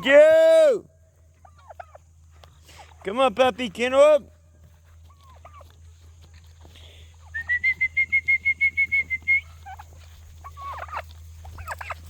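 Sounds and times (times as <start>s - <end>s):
poultry calling: 0.0s - 12.0s.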